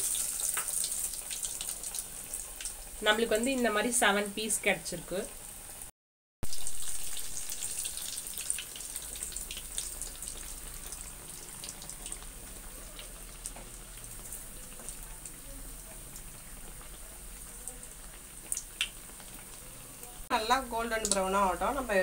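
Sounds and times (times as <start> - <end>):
oil crackling and sizzling: 0.0 - 22.0.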